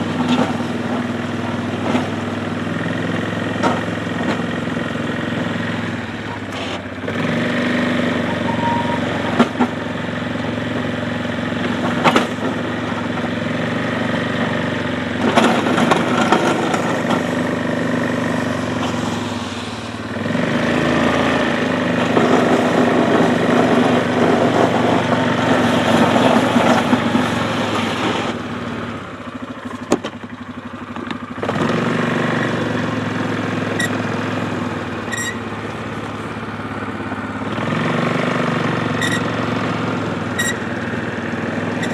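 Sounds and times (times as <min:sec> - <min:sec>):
atv engine pushing a plow: 0:00.0 - 0:41.9.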